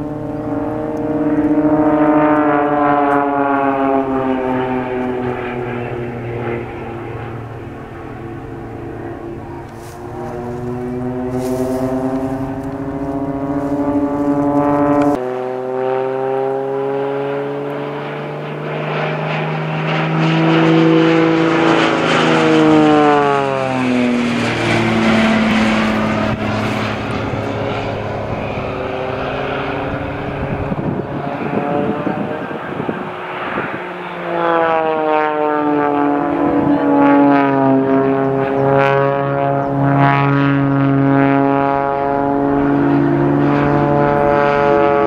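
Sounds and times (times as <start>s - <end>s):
propeller aircraft droning: 0.0s - 45.0s.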